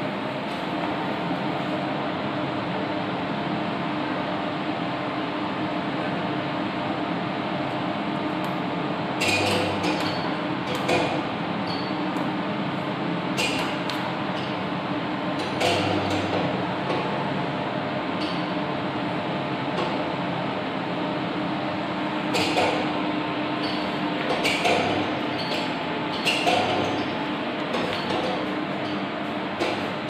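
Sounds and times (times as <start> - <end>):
inverter hum and fan hiss: 0.0 - 30.0.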